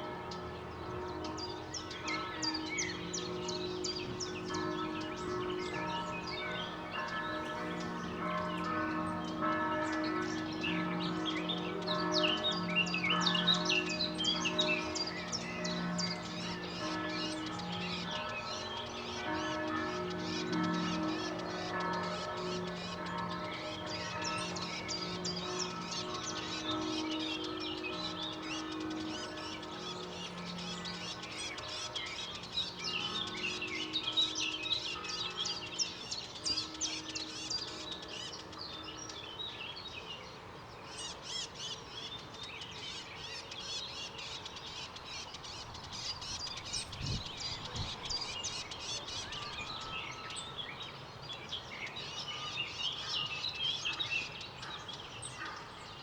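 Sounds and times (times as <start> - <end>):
birds chirping: 0.0 - 56.0
distant church bells ringing: 0.0 - 56.0
faint city background: 0.0 - 56.0.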